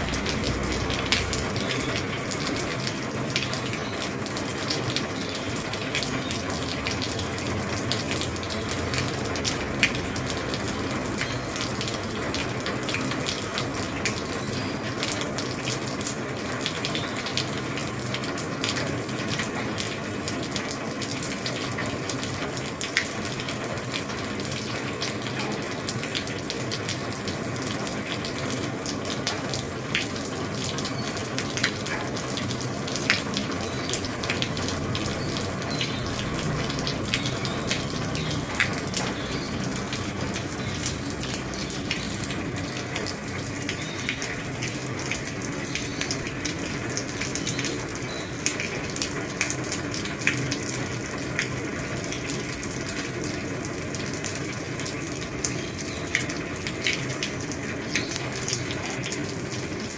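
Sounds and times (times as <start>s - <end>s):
heavy rain on a roof: 0.0s - 59.9s
raindrops ticking on roof: 0.0s - 59.9s.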